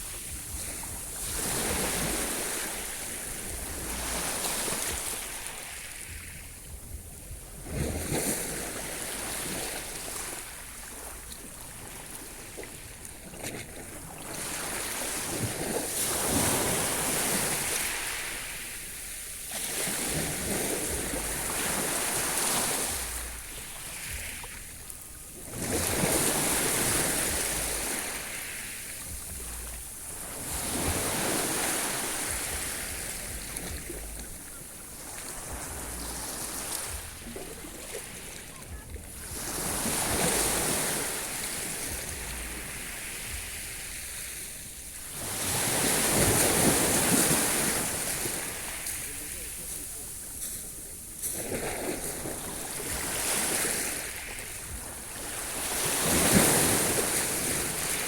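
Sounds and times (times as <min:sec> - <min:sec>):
sea waves washing onto shore: 0:00.0 - 0:58.0.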